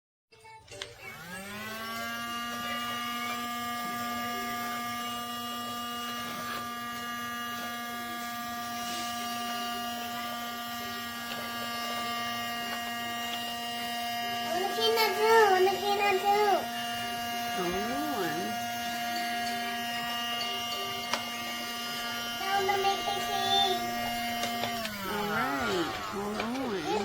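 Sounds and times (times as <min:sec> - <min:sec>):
toy vacuum motor spinning: 0:00.4 - 0:27.0.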